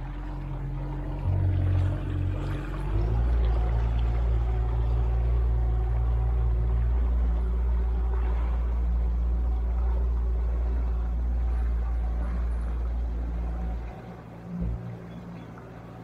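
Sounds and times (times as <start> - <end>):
outboard motor droning: 0.0 - 16.0.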